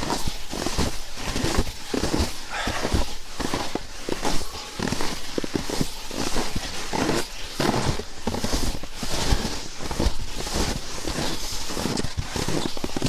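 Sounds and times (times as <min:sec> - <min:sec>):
footsteps crunching in frozen snow: 0:00.0 - 0:13.0.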